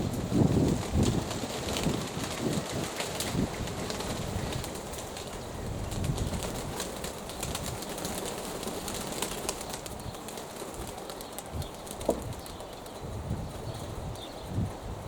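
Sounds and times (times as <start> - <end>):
strong wind: 0.0 - 15.0.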